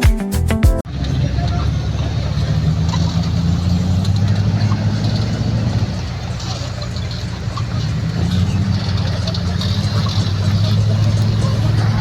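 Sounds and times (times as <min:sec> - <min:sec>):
vehicle engine humming: 0:00.9 - 0:12.0.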